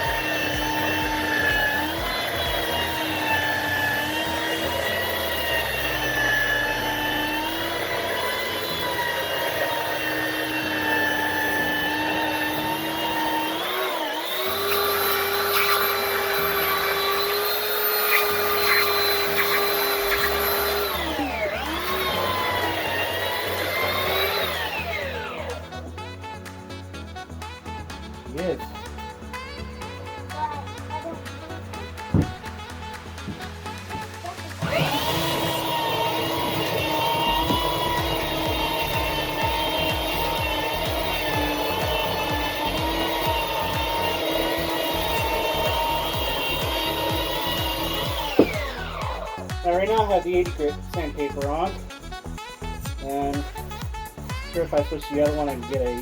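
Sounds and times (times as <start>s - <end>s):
belt sander motor whining: 0.0s - 26.6s, 28.3s - 52.0s, 52.7s - 56.0s.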